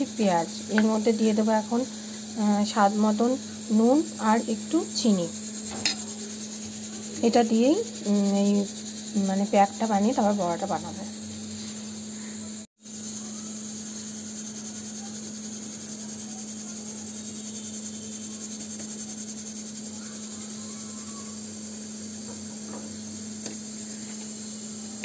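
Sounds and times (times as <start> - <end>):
background hum with high hiss: 0.0 - 25.0.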